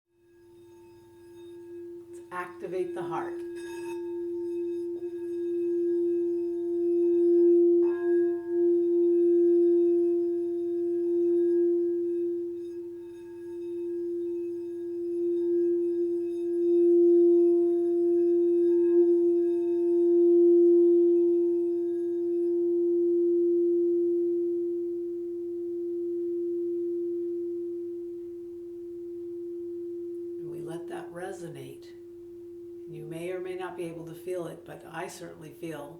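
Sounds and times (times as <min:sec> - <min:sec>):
singing bowl low tone: 0:00.1 - 0:34.6.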